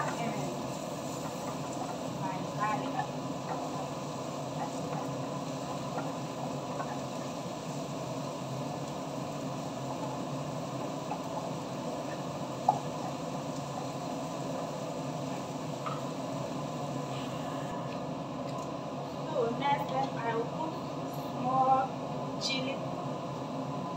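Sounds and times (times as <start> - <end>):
vegetables sizzling in oil: 0.0 - 23.9.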